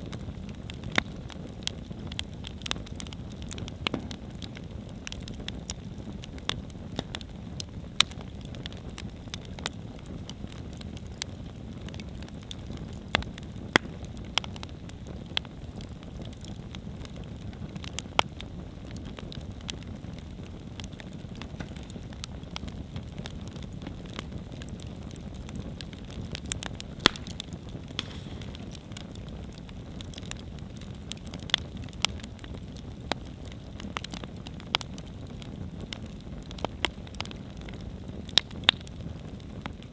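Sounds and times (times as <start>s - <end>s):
burning wood crackling and popping: 0.0s - 39.9s
campfire flames rushing: 0.0s - 39.9s.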